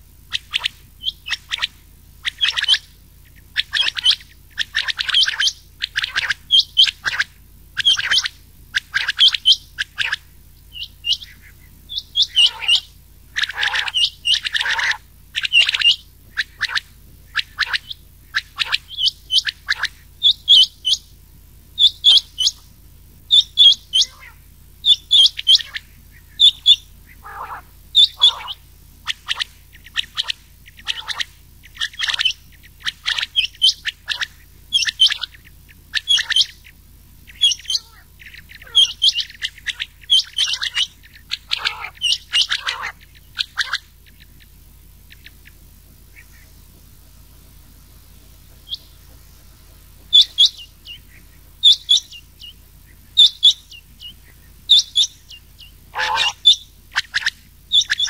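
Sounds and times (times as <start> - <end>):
faint low hum: 0.0 - 58.0
quail calls: 0.3 - 21.2, 21.8 - 58.0.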